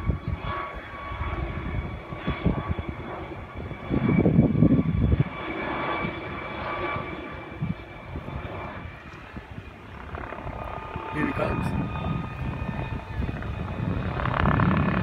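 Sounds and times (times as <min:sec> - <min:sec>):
helicopter rotor noise: 0:00.0 - 0:15.0
helicopter turbine whine: 0:00.0 - 0:15.0
wind buffeting microphone: 0:00.0 - 0:15.0.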